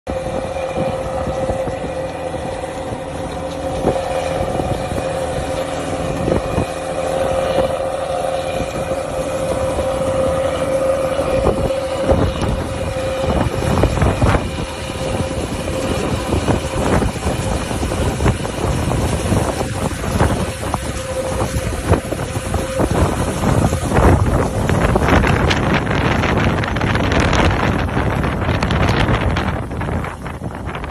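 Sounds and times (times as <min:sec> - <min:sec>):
tractor engine whining: 0:00.1 - 0:30.9.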